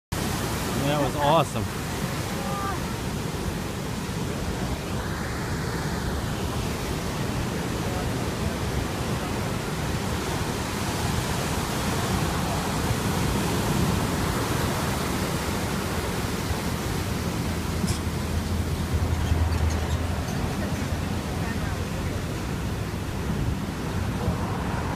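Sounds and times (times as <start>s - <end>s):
surf breaking on beach: 0.1s - 24.9s.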